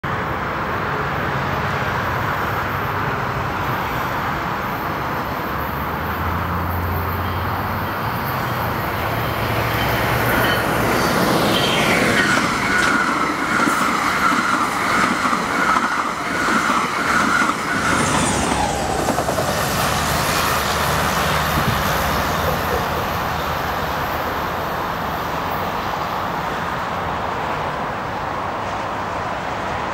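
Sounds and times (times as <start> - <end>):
train wheels on rail: 0.1 - 29.9.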